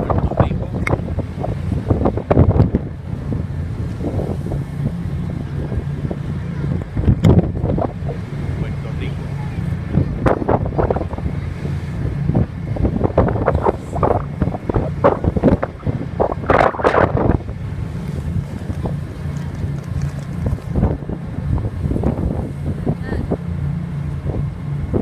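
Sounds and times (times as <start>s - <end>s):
ferry engines droning: 0.0s - 25.0s
wind buffeting microphone: 0.0s - 25.0s.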